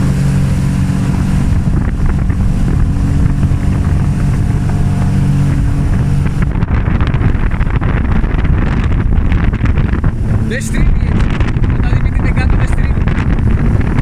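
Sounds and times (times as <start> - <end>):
jet ski engine: 0.0 - 14.0
water rushing under hull: 0.0 - 14.0
wind on microphone: 0.0 - 14.0.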